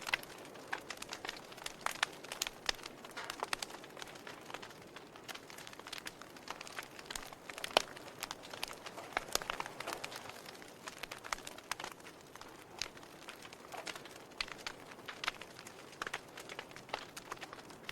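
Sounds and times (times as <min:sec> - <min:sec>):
wood fire crackling and popping: 0:00.0 - 0:17.9.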